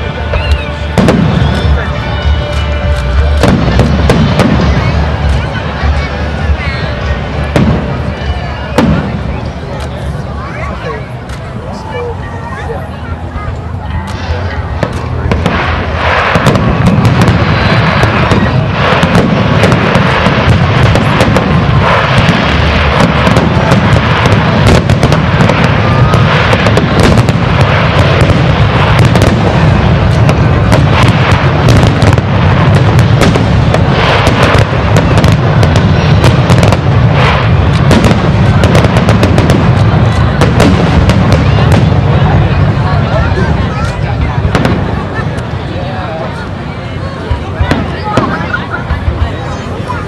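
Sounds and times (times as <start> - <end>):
fireworks booming: 0.0 - 50.0
fireworks crackling: 0.0 - 50.0.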